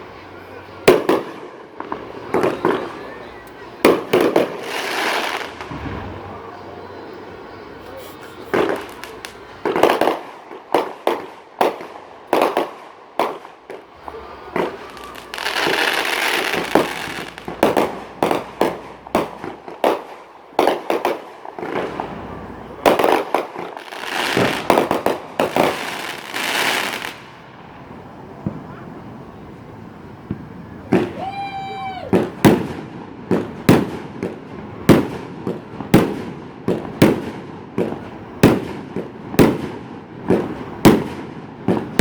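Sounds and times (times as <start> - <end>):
firework crackling: 0.0 - 42.0.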